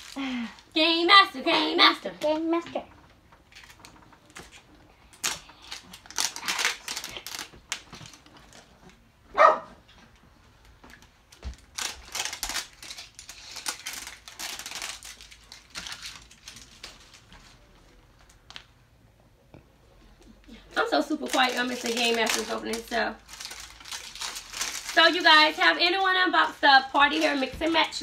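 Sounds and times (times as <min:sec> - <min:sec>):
plastic wrapping crinkling: 0:00.0 - 0:02.6, 0:03.2 - 0:09.1, 0:10.5 - 0:18.7, 0:20.5 - 0:28.0.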